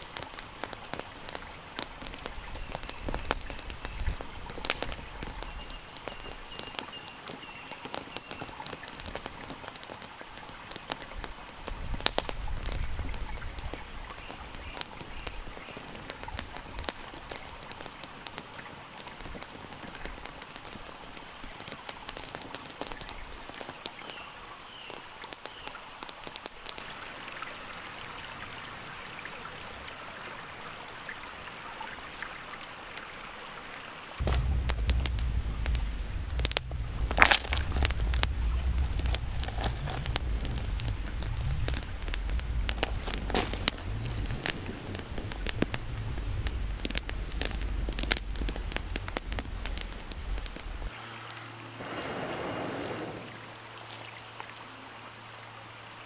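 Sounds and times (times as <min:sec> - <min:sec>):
mountain stream rushing: 0:00.0 - 0:24.6, 0:25.2 - 0:56.0
campfire crackling and popping: 0:00.0 - 0:26.9, 0:34.2 - 0:54.8.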